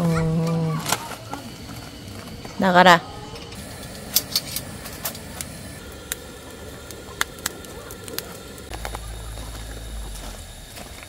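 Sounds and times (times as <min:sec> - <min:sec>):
charcoal crackling and popping: 0:00.0 - 0:11.0
gas burner flame hissing: 0:00.0 - 0:11.0
low rumble: 0:00.0 - 0:11.0.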